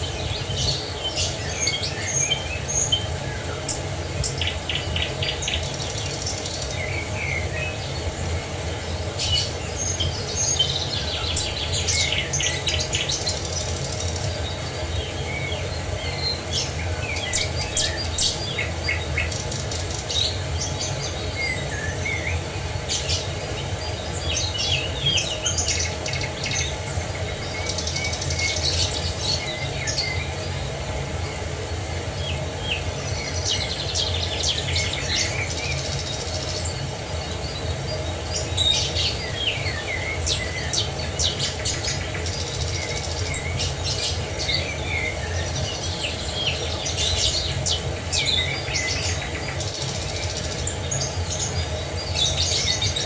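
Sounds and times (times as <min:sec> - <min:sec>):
wild birds chirping and singing: 0:00.0 - 0:53.0.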